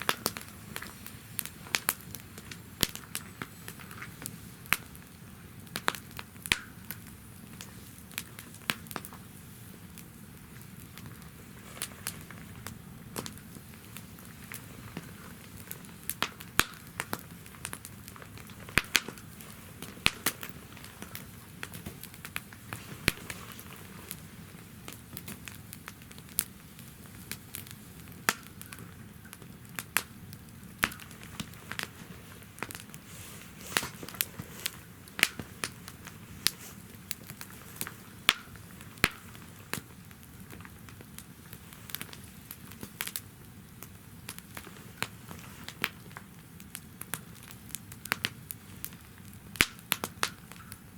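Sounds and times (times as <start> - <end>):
firewood crackling and popping: 0.0 - 50.9.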